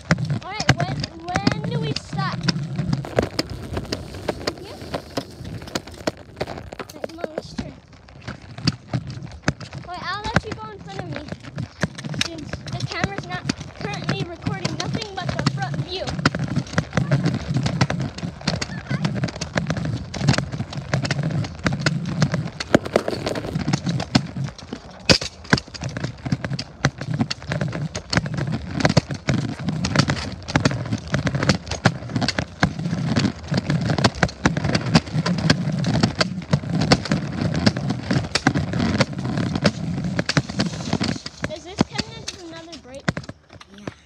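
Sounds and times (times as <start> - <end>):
low rumble with rapid clattering: 0.0 - 43.6
microphone handling bumps: 0.0 - 44.0.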